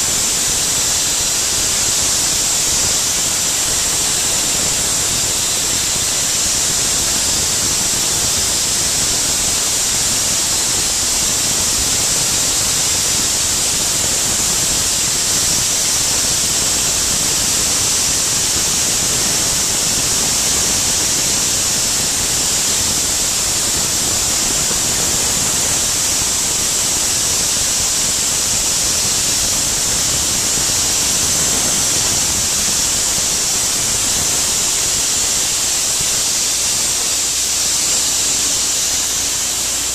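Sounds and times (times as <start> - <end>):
soda blaster spraying hiss: 0.0 - 39.9.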